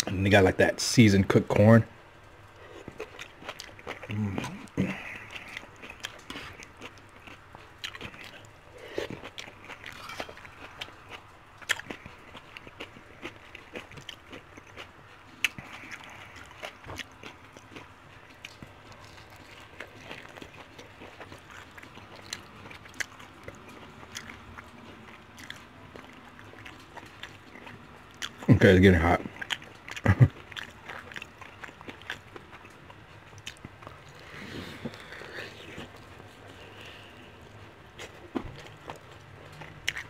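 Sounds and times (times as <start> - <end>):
chewing with wet mouth clicks: 2.2 - 40.0.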